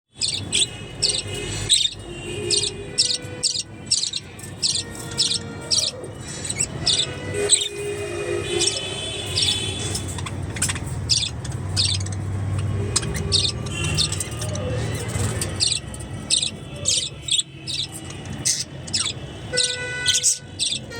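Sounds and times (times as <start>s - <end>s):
budgerigar chirping: 0.2s - 7.8s, 8.6s - 20.9s.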